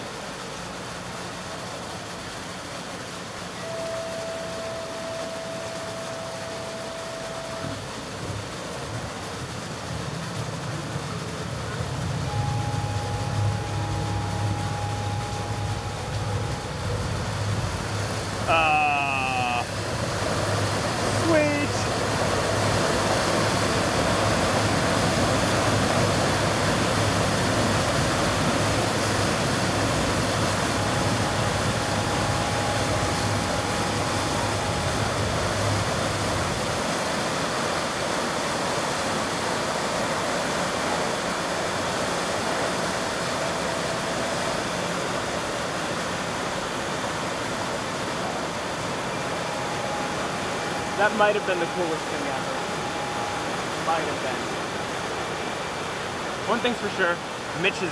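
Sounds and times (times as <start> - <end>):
water gushing into channel: 0.0 - 57.9.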